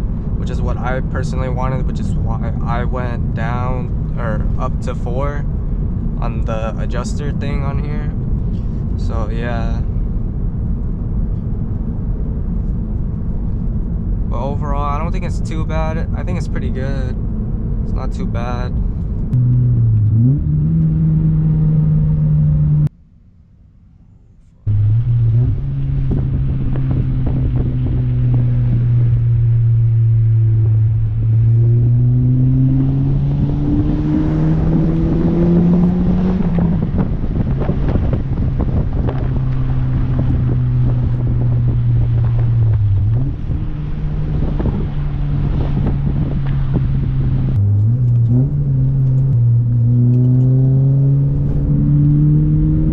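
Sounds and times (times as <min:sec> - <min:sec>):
car engine accelerating: 0:00.0 - 0:22.9, 0:24.6 - 0:52.9.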